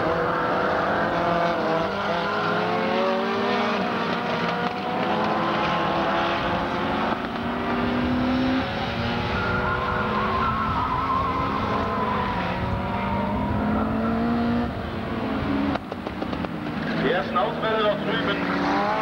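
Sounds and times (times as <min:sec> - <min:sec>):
small race car engines: 0:00.0 - 0:19.0.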